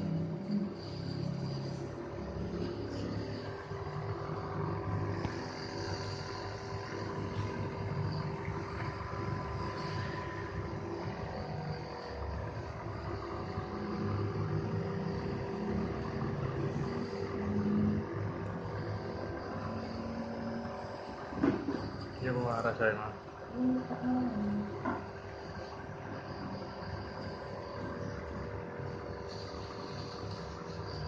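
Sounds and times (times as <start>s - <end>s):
nebuliser compressor humming: 0.0s - 31.0s.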